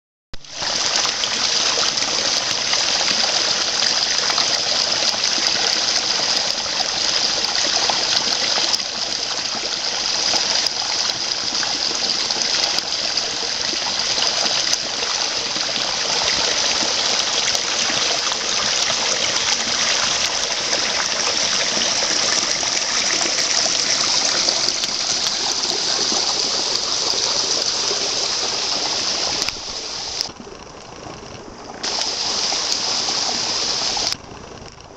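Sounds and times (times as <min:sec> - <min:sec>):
stream splashing over boulders: 0:00.4 - 0:34.2.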